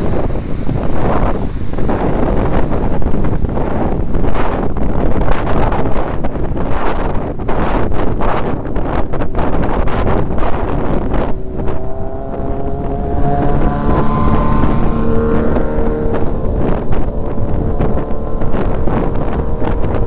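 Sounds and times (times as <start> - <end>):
passing vehicle engine drone: 0.0 - 6.2, 9.6 - 20.0
road noise of passing traffic: 0.0 - 20.0
wind buffeting microphone: 0.0 - 20.0.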